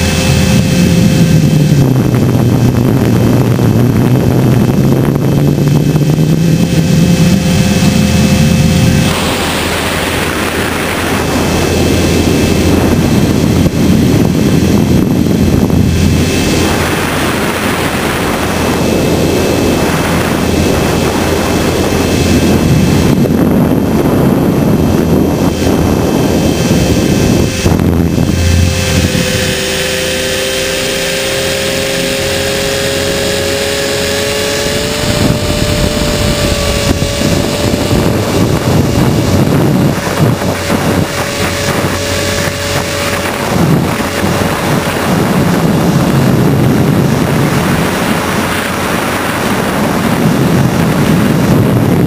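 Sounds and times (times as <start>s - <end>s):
rc helicopter rotor and motor: 0.0s - 52.0s
steady rising whine: 0.0s - 52.0s
wind buffeting: 0.0s - 52.0s.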